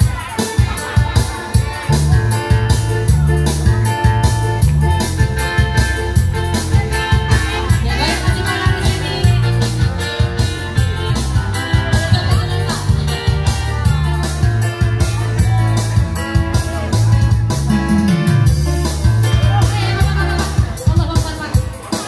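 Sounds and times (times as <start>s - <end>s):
dance music over speakers: 0.0s - 22.0s.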